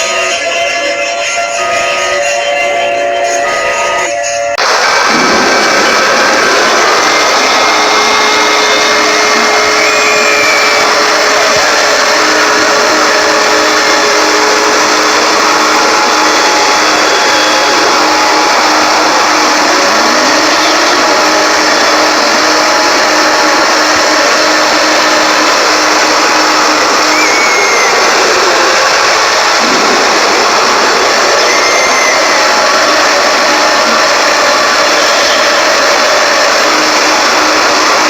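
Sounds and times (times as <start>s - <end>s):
static hiss: 4.6s - 38.0s.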